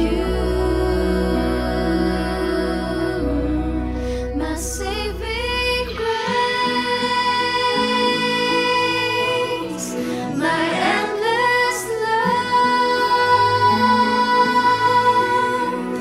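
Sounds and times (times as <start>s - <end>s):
soft instrumental backing: 0.0s - 16.0s
women singing a worship song: 0.0s - 16.0s.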